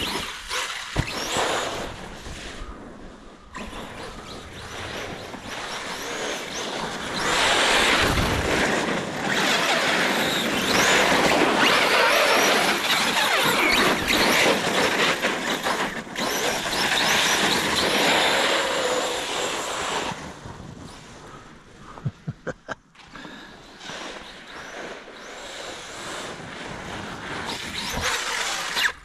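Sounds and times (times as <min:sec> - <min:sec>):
toy car motor whine: 0:00.0 - 0:02.0, 0:03.6 - 0:20.4, 0:23.8 - 0:29.0.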